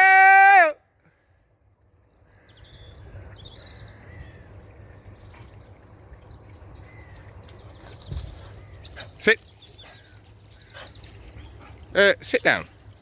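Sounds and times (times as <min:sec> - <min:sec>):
birds chirping and singing: 0:01.8 - 0:13.0.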